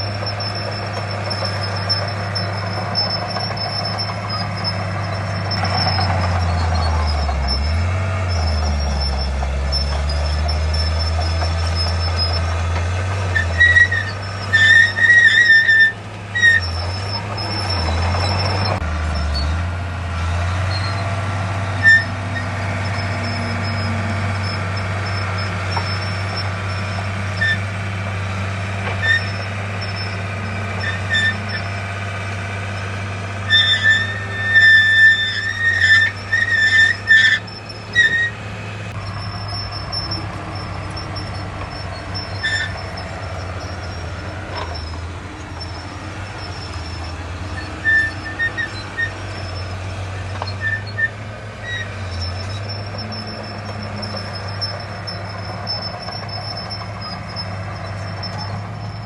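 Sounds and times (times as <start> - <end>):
bulldozer diesel engine running: 0.0 - 59.0
steel tracks squealing: 0.0 - 59.0.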